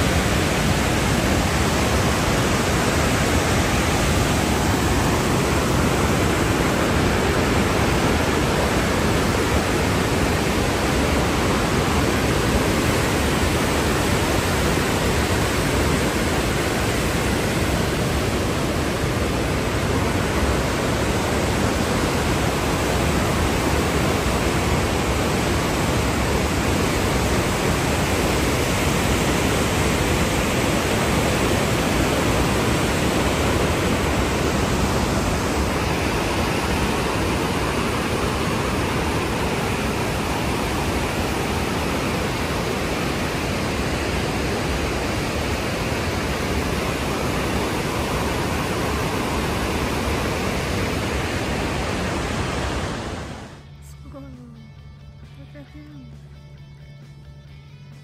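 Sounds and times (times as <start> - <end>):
waterfall and river rushing: 0.0 - 53.7.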